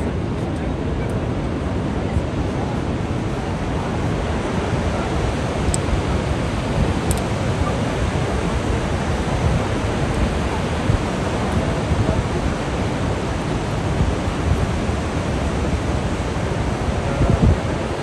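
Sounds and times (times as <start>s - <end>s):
waterfall rushing with low rumble: 0.0s - 18.0s.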